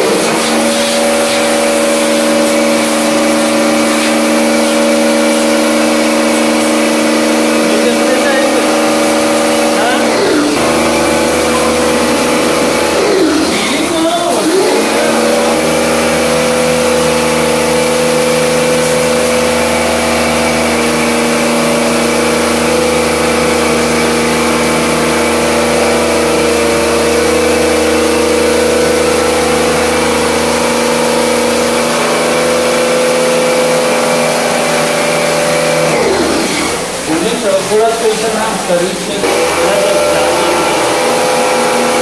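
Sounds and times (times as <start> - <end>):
pressure washer motor humming: 0.0 - 42.0
water jet hissing on metal: 0.0 - 42.0.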